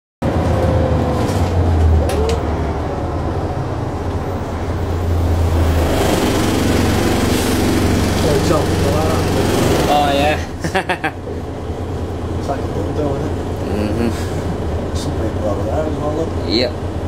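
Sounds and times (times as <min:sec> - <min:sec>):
bus engine drone: 0:00.2 - 0:17.0.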